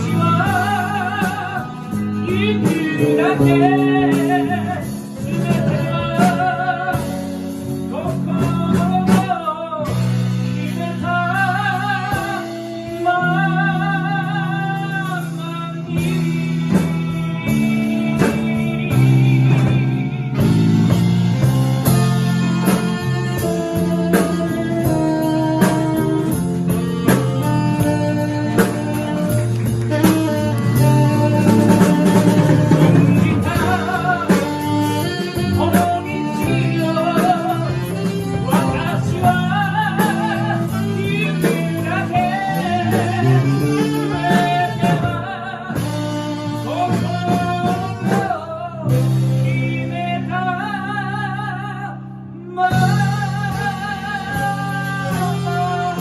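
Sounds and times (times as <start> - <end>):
tenor saxophone melody: 0.0 - 8.0, 11.3 - 48.5
live band playing a ballad: 0.0 - 56.0.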